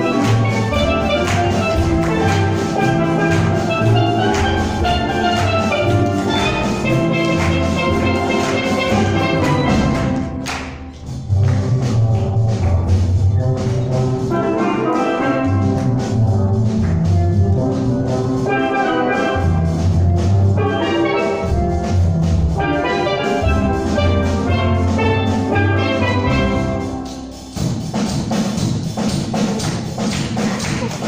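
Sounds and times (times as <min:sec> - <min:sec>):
drum kit percussion: 0:00.0 - 0:31.0
sharp percussive strikes: 0:00.0 - 0:31.0
steel pan ensemble playing: 0:00.0 - 0:31.0.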